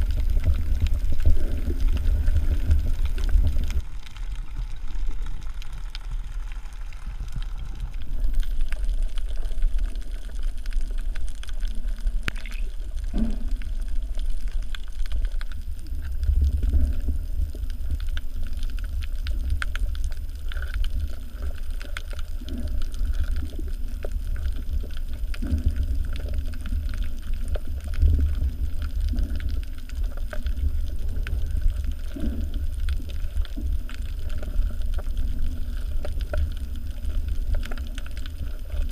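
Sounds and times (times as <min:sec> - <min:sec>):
faint clicks and crackles: 0:00.0 - 0:38.9
underwater water rumble: 0:00.0 - 0:38.9.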